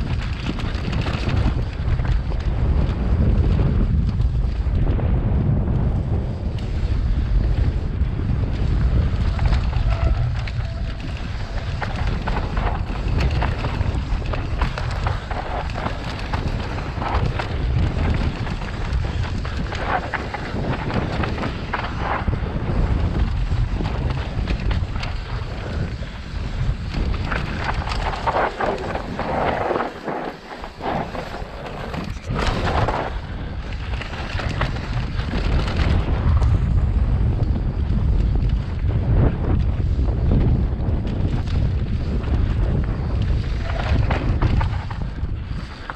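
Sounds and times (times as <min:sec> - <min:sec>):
bike tyres rattling on trail: 0:00.0 - 0:45.9
wind buffeting microphone: 0:00.0 - 0:45.9.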